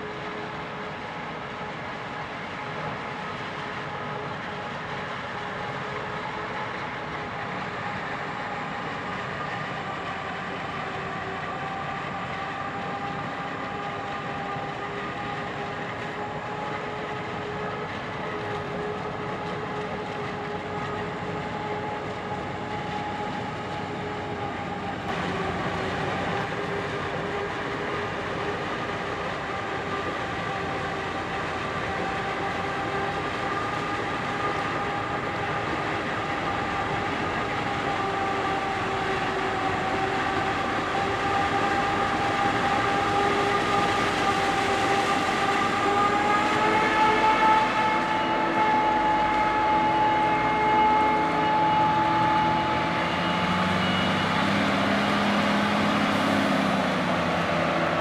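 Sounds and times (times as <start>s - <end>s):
heavy machinery whining: 0.0s - 58.0s.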